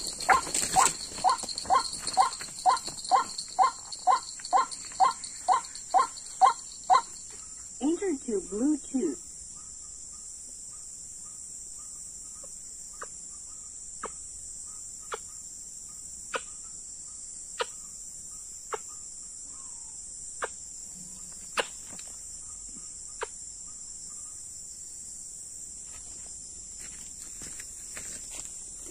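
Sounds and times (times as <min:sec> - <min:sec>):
crickets and insects chirring: 0:00.0 - 0:28.9.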